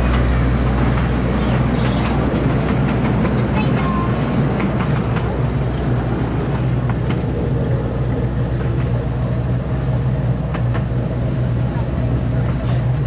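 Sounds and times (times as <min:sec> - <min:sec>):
miniature train rumbling: 0:00.0 - 0:13.0.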